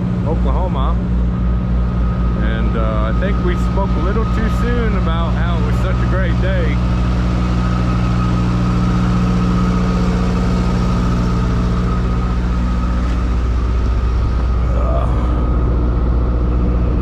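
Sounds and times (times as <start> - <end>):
truck diesel engine idling: 0.0 - 16.8.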